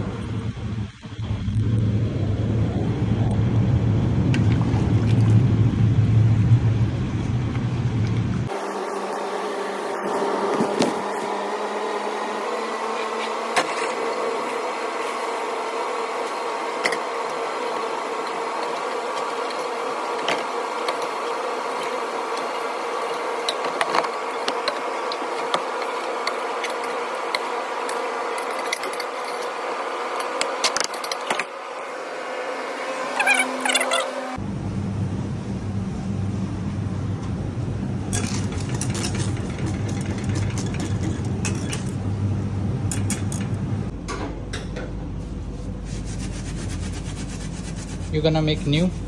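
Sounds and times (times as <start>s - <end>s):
kitchen extraction hum: 0.0s - 49.0s.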